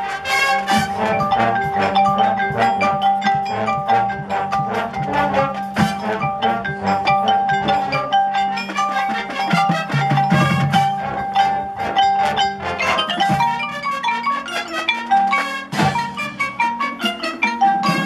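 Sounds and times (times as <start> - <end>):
marimbas and xylophones playing: 0.0 - 18.0.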